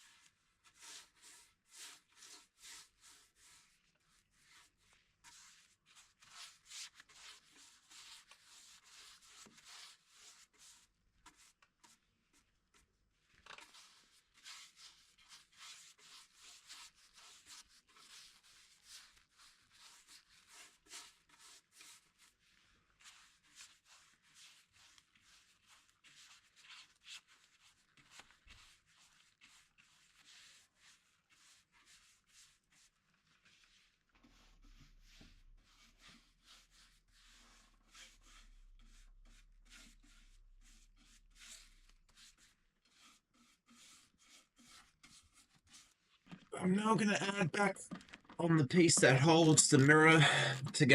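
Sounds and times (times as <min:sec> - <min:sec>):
faint rubbing strokes: 0:00.0 - 0:12.9, 0:13.6 - 0:50.9.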